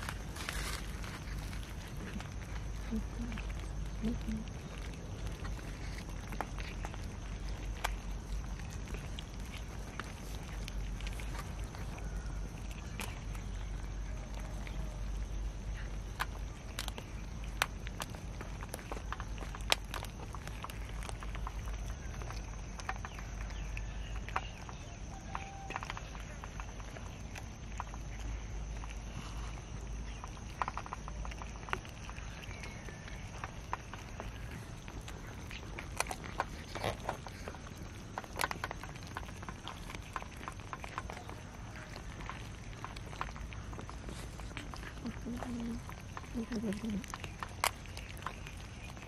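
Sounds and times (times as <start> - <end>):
cats chewing and lapping: 0.0 - 49.0.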